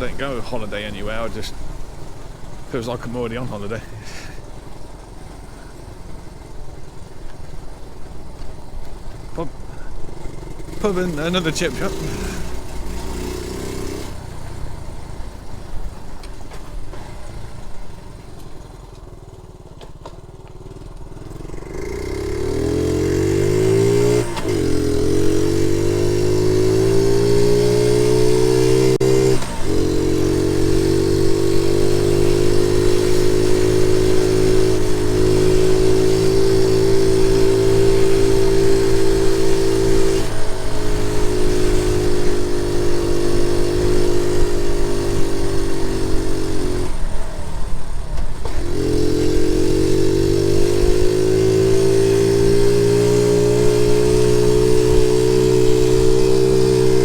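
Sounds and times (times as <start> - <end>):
small motorcycle engine accelerating: 0.0 - 57.0.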